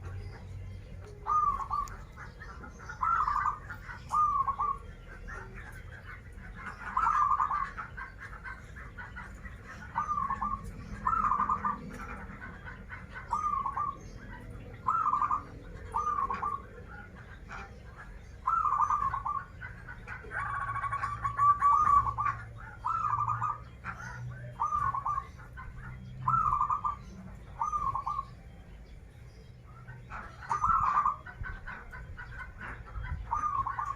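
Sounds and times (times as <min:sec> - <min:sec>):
dove cooing: 0:00.0 - 0:28.5, 0:29.9 - 0:33.9.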